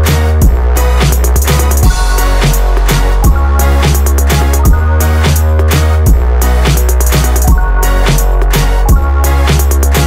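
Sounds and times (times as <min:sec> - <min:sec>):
deep sustained bass: 0:00.0 - 0:10.0
steady drum beat: 0:00.0 - 0:10.0.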